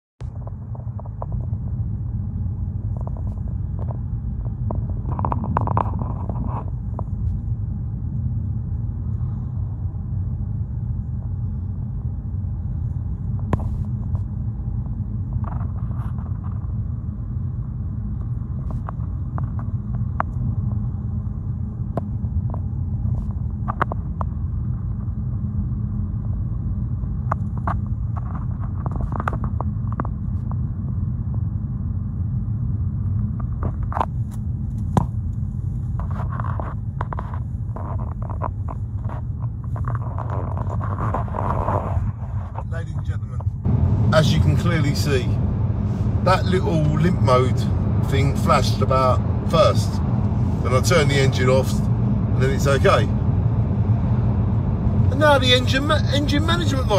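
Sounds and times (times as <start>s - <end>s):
car engine and road noise: 0.2s - 56.9s.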